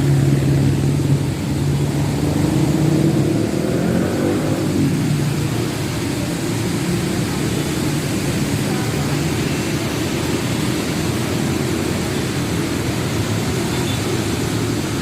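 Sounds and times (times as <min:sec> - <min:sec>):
moving vehicle rumble and hiss: 0:00.0 - 0:15.0.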